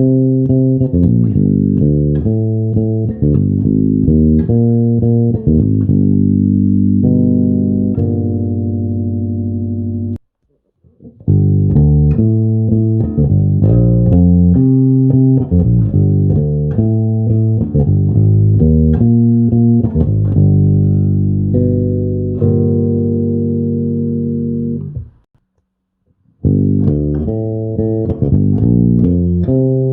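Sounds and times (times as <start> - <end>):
electric bass guitar: 0.0 - 10.2, 11.0 - 25.3, 26.4 - 29.9.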